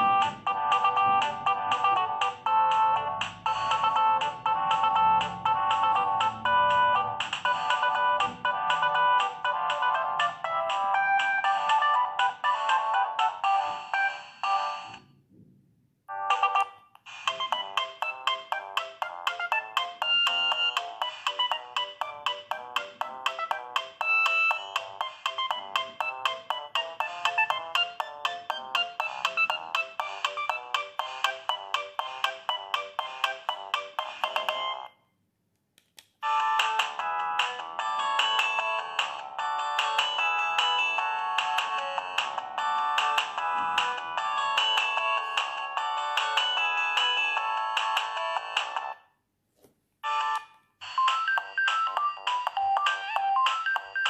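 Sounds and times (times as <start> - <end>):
mobile phone ringtone melodies: 0.0 - 15.1, 16.1 - 35.0, 36.2 - 49.0, 50.0 - 54.0.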